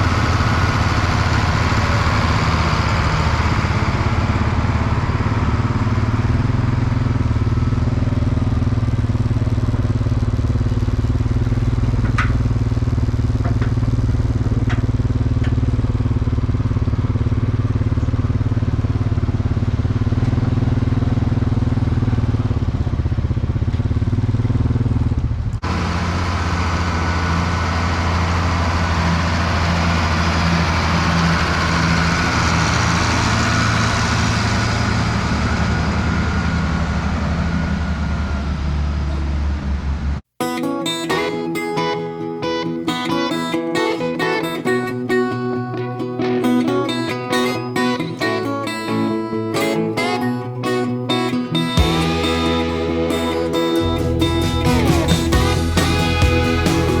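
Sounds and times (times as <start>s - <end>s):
engine at different pitch: 0.0s - 40.2s, 41.2s - 57.0s
tractor engine running: 0.0s - 40.3s, 51.0s - 57.0s.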